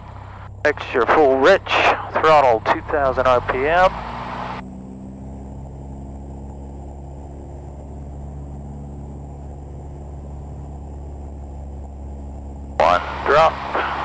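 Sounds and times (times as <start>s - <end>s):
muffled aircraft engine drone: 0.0s - 14.0s.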